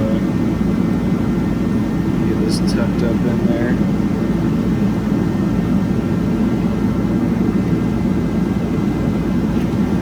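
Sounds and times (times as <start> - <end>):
low mechanical drone: 0.0 - 10.0.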